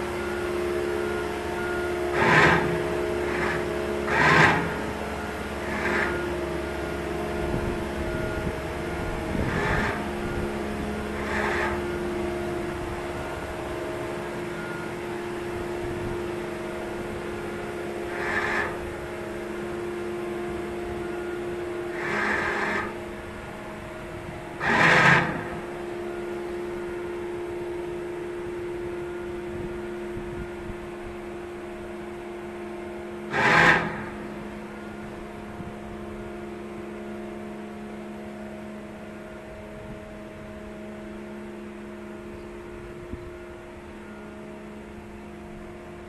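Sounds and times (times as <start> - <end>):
boat engine droning: 0.0 - 46.0.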